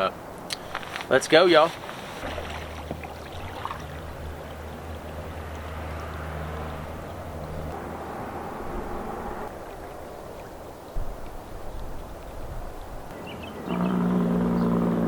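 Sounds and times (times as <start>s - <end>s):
river water rushing and gurgling: 0.2s - 15.0s.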